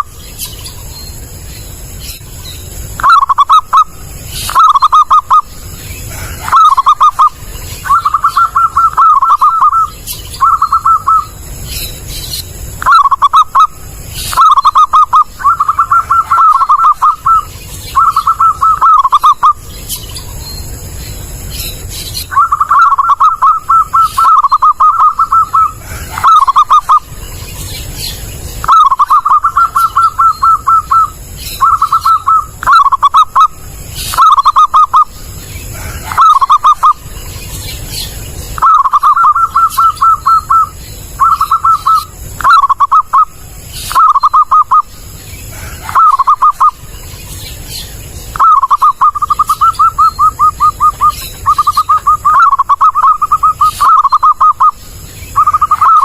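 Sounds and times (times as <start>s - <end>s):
dove cooing: 3.0s - 11.4s, 12.8s - 19.6s, 22.2s - 27.2s, 27.8s - 37.1s, 38.6s - 46.9s, 48.3s - 54.8s, 55.4s - 56.0s.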